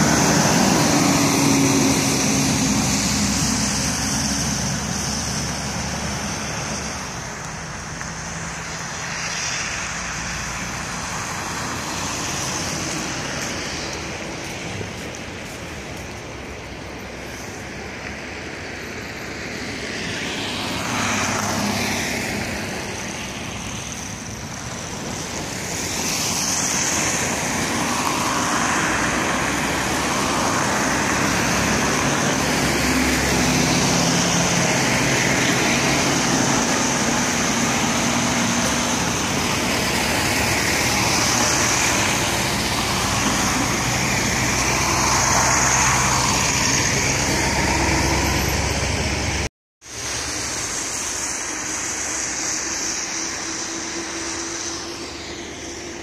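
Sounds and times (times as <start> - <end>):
traffic hissing on wet street: 0.0 - 56.0.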